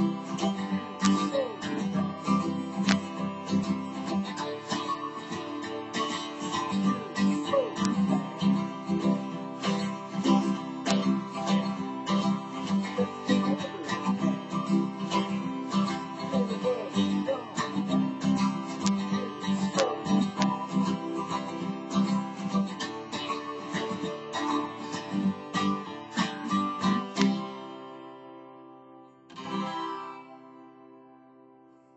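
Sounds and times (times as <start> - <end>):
acoustic guitar strumming: 0.0 - 31.9.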